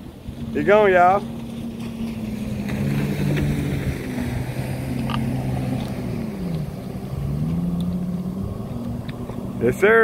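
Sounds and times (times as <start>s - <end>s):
rushing water: 0.0s - 10.0s
watercraft engine running: 0.0s - 10.0s
wind: 0.0s - 10.0s.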